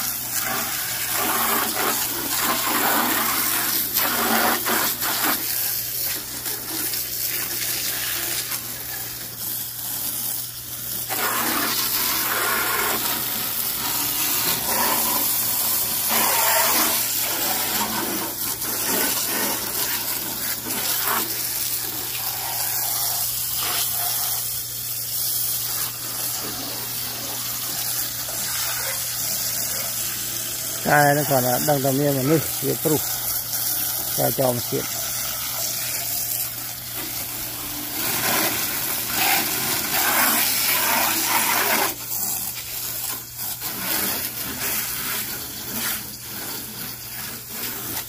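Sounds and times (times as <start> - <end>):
hose water spraying on plastic: 0.0 - 48.0.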